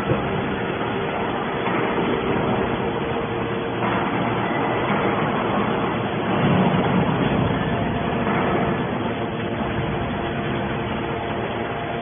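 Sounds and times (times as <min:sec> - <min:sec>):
faint constant tone: 0:00.0 - 0:12.0
hydraulic machine running: 0:00.0 - 0:12.0.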